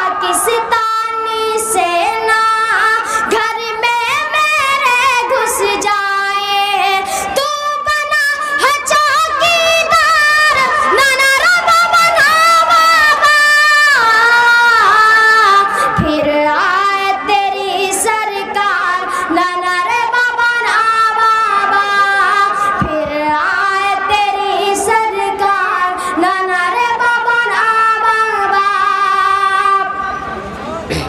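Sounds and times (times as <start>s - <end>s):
boy singing over loudspeakers: 0.0s - 30.3s.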